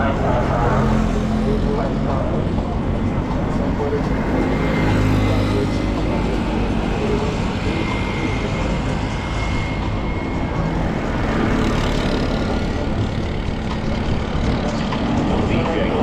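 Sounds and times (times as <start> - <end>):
street traffic engines and road noise: 0.0 - 16.0.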